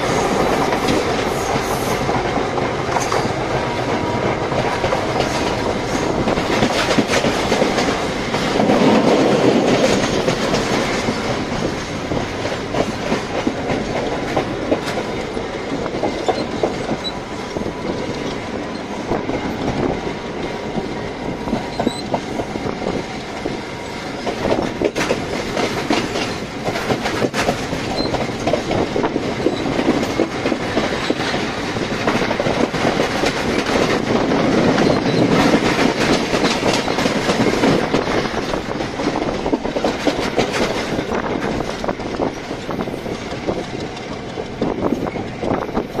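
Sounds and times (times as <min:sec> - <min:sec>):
train carriage rumbling: 0:00.0 - 0:46.0
wheels clicking over rail joints: 0:00.0 - 0:46.0.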